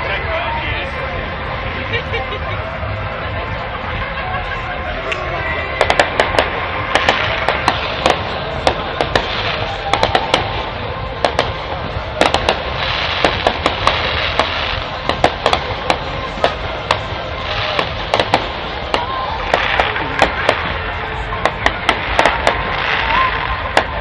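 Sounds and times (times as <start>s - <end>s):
background hiss and rumble: 0.0s - 24.0s
fireworks crackling and popping: 0.0s - 24.0s.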